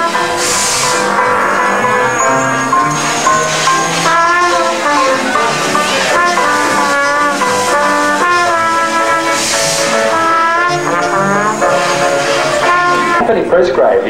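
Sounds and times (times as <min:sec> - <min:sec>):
clarinet: 0:00.0 - 0:13.3
trombone: 0:00.0 - 0:13.5
jazz band playing: 0:00.0 - 0:14.0.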